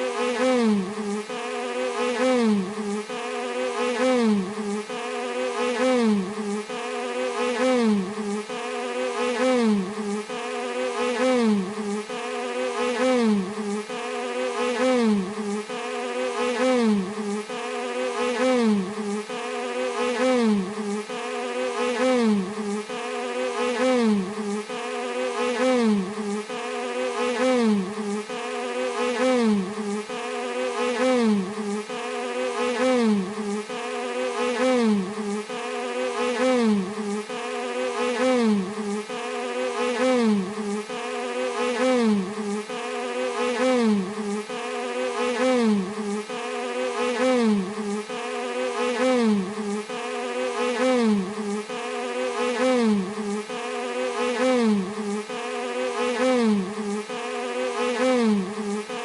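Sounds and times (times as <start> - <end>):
bee buzzing: 0.0 - 59.0.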